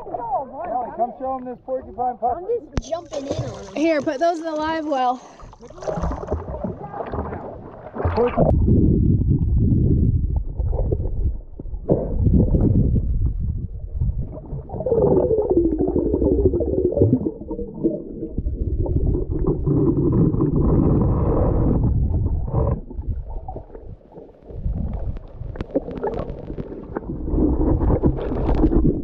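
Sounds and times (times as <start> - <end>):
muffled underwater rumbling: 0.0 - 29.0.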